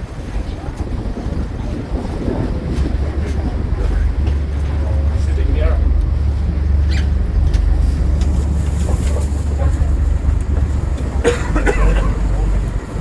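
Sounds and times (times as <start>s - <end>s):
boat engine rumbling: 0.0s - 13.0s
faint voices: 0.0s - 13.0s.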